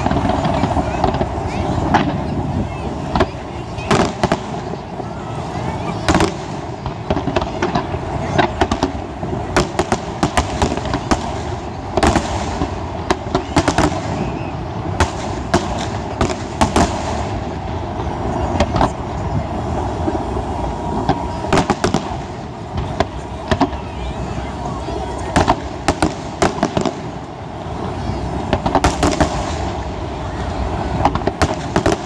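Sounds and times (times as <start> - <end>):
continuous noisy background: 0.0 - 32.0
fireworks bangs and crackling: 0.0 - 32.0.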